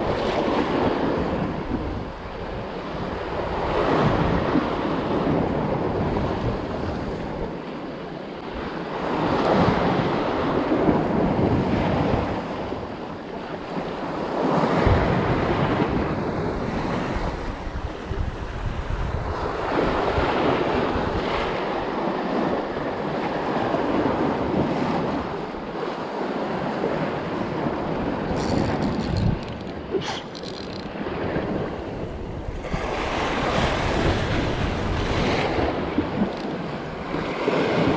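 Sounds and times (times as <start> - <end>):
sea waves washing over rocks: 0.0 - 37.9
wind buffeting the microphone: 0.0 - 37.9.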